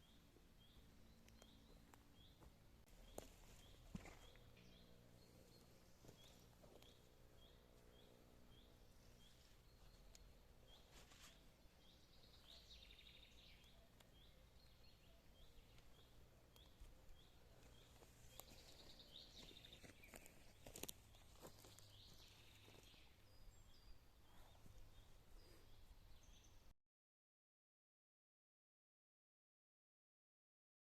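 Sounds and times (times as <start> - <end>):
faint birdsong: 0.0 - 26.7.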